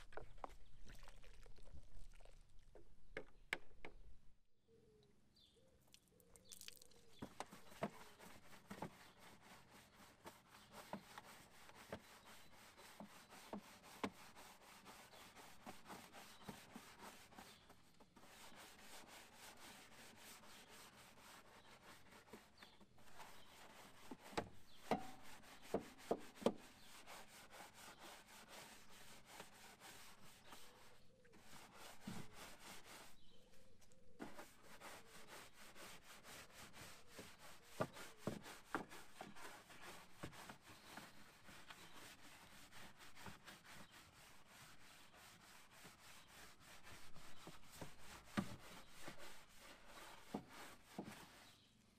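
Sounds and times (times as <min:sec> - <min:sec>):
brush scrubbing a surface: 0:07.1 - 0:51.8.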